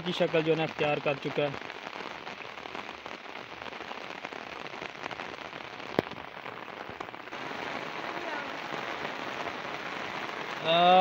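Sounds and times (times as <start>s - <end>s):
rain falling on fields: 0.0s - 11.0s.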